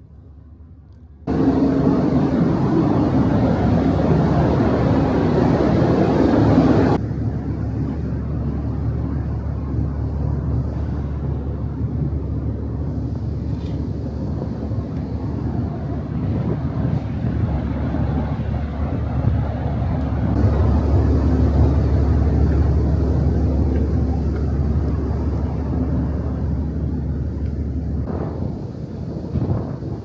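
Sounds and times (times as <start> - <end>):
ferry engine drone: 0.0 - 30.0.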